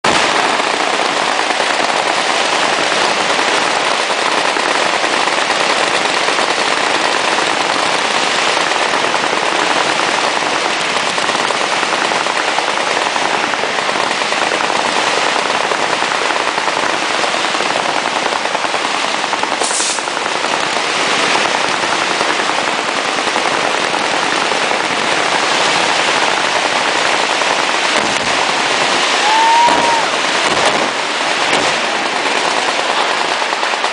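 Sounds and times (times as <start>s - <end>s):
rapid automatic gunfire: 0.0s - 29.2s, 30.1s - 33.9s.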